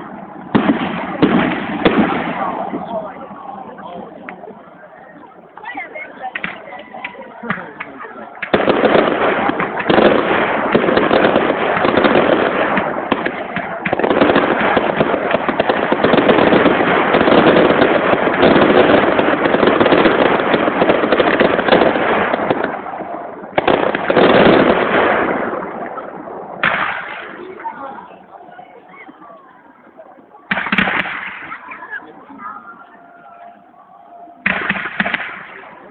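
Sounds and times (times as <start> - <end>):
fireworks bursts and crackling: 0.0 - 35.9.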